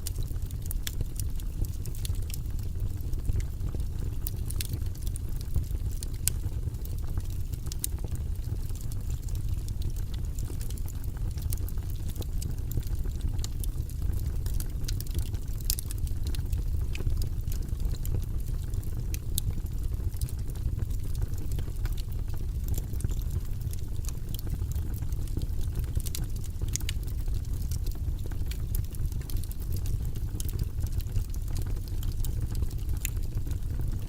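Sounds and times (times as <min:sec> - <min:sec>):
fire burning in fireplace: 0:00.0 - 0:34.0
fire crackling and popping: 0:00.0 - 0:34.0.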